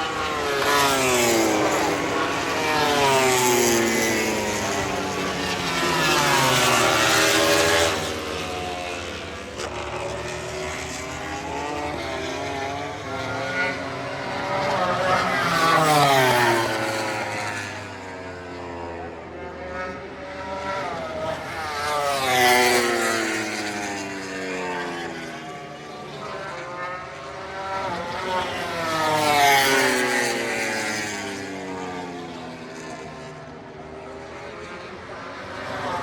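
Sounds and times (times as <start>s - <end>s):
racing motorcycles passing: 0.0s - 36.0s.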